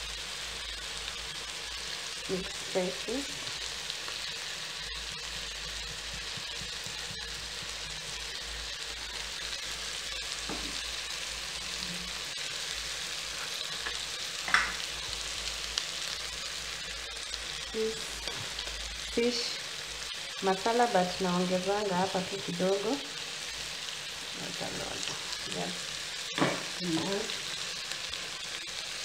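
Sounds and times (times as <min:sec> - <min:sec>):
food sizzling in a pot: 0:00.0 - 0:29.0.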